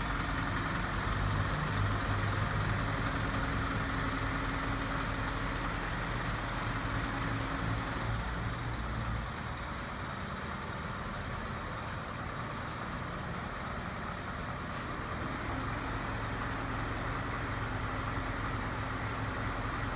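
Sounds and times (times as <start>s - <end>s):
tow truck engine idling: 0.0s - 19.9s.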